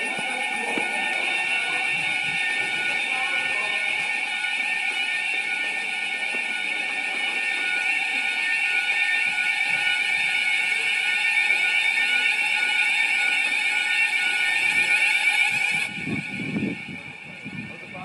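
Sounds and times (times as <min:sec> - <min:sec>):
fire alarm high-pitched tone: 0:00.0 - 0:18.0.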